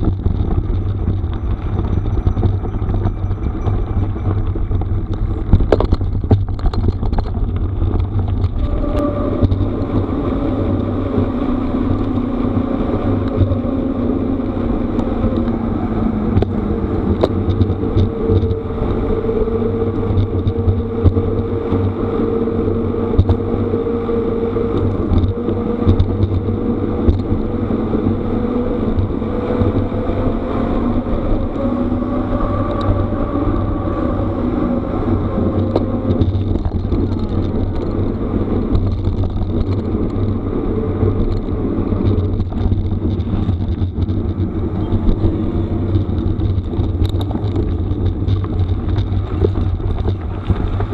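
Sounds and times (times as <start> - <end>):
steady hum: 0.0 - 50.9
vehicle rumbling over gravel: 0.0 - 50.9.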